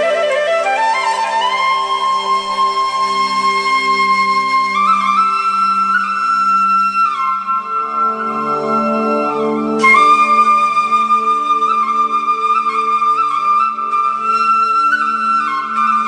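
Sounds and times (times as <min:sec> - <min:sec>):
slow melody with pulsing accompaniment: 0:00.0 - 0:16.0.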